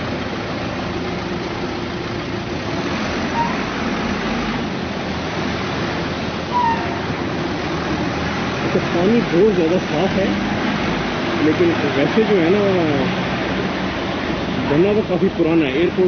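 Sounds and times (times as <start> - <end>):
people at a busy curbside: 0.0 - 16.0
vehicles: 0.0 - 16.0.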